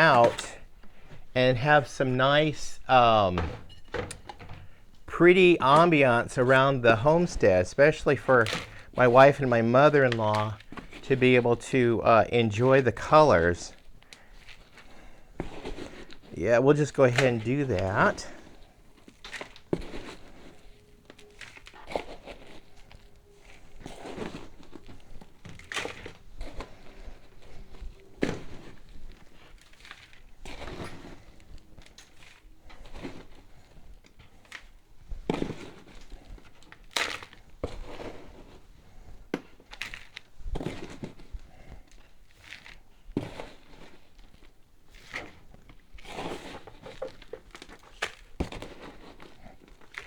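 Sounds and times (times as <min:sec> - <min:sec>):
flower pots rustling and scraping: 0:00.0 - 0:50.0.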